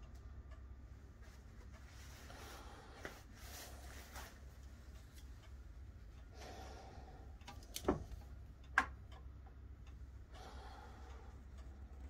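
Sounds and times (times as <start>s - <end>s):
wall clock ticking: 0.0s - 12.0s.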